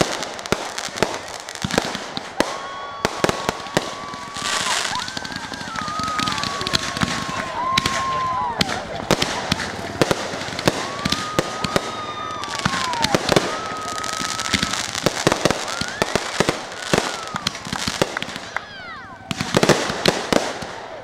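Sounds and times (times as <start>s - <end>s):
fireworks bangs and crackles: 0.0s - 21.0s
fireworks whistles: 0.0s - 21.0s.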